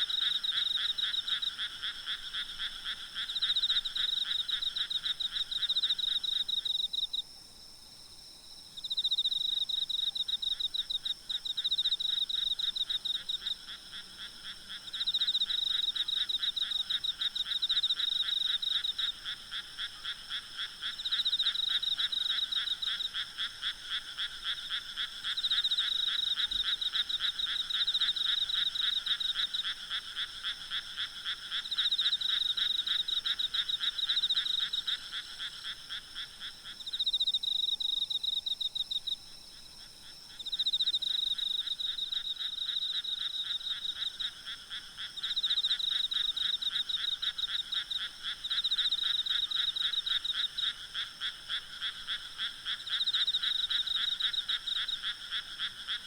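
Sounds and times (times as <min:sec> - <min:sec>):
frogs calling in pulsed bouts: 0:08.8 - 0:56.0.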